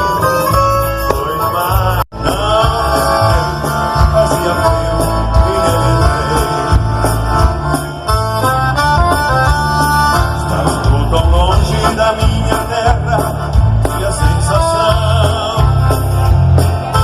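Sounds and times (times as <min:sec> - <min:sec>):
live instrumental band music: 0:00.0 - 0:17.0.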